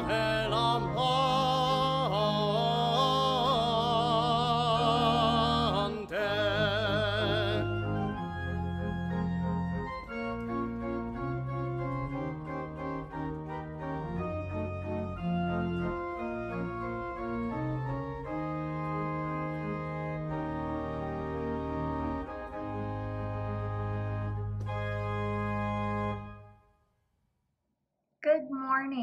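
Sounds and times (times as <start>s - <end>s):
church organ chords: 0.0s - 26.7s.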